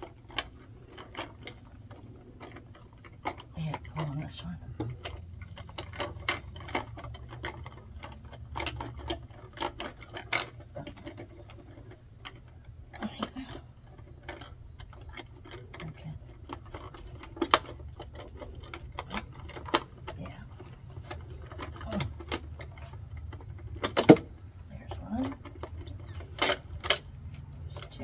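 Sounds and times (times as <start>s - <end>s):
low steady hum: 0.0s - 28.0s
wires clicking and rubbing: 0.0s - 28.0s.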